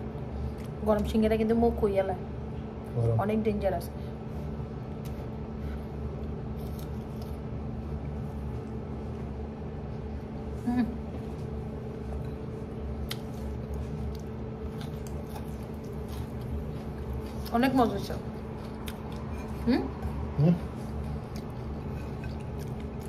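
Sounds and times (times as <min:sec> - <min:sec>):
kitchen machinery hum: 0:00.0 - 0:23.0.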